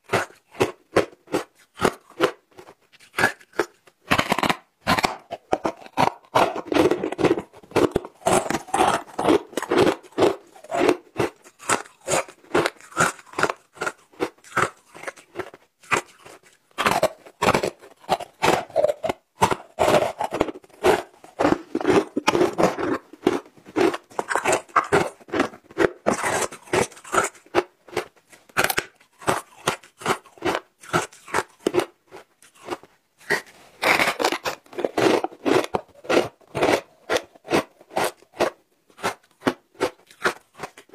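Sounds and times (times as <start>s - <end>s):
chewing crunchy ice: 0.0s - 40.9s.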